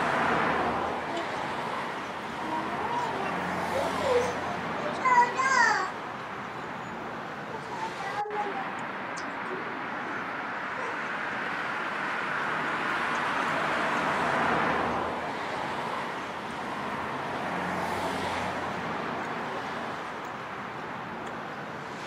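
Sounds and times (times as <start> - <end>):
vehicle passing: 0.0 - 21.2
road traffic noise: 0.0 - 22.0.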